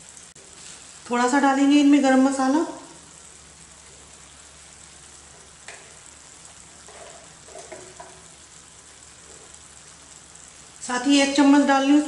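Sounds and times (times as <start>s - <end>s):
chillies sizzling in a pan: 0.0s - 12.0s.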